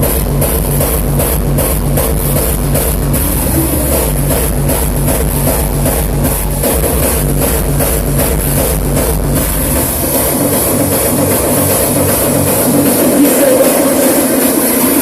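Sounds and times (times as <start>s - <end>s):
hardstyle electronic dance music: 0.0s - 15.0s
pounding bass beat: 0.0s - 15.0s.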